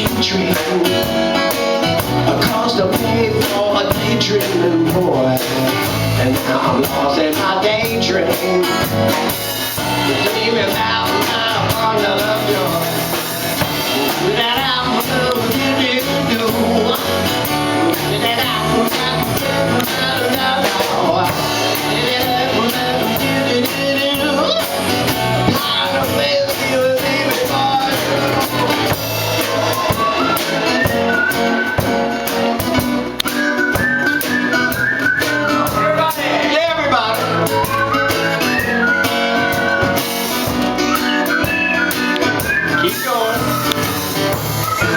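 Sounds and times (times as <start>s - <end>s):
guitar: 0.0s - 44.9s
live band playing: 0.0s - 44.9s.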